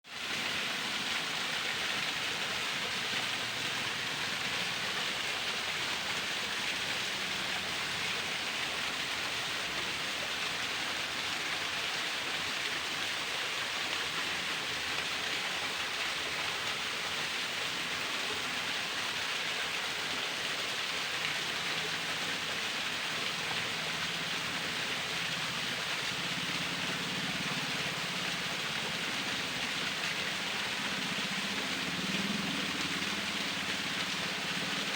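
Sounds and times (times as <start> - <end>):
waterfall splashing: 0.1 - 34.9.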